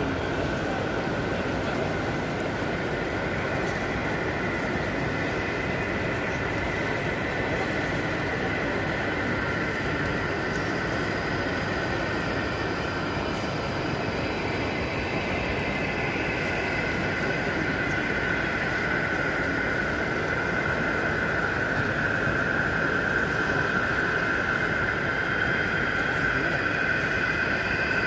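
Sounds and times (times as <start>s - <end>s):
model train running with whine: 0.0s - 28.0s.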